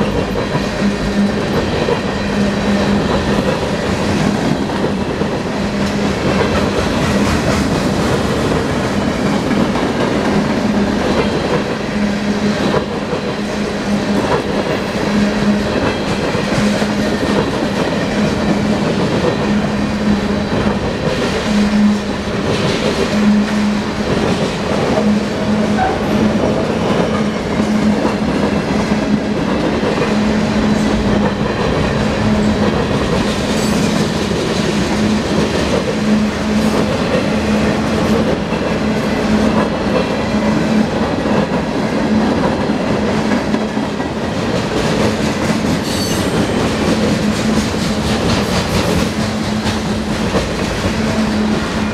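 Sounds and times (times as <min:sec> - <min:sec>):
steel wheels rumbling on rail: 0:00.0 - 0:51.9.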